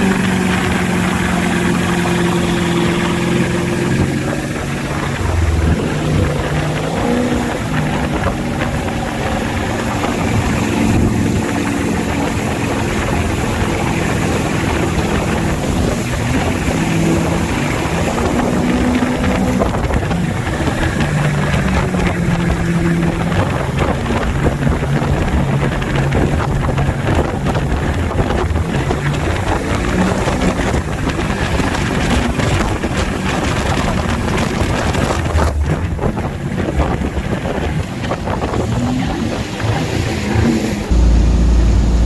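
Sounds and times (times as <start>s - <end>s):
boat engine running: 0.0s - 42.0s
water rushing: 0.0s - 42.0s
wind buffeting microphone: 0.0s - 42.0s.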